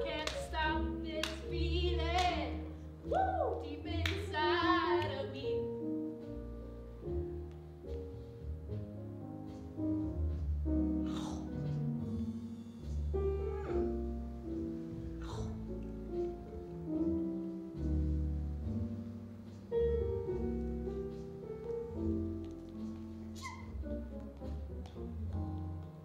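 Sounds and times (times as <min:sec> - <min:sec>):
jazz piano music: 0:00.0 - 0:26.0.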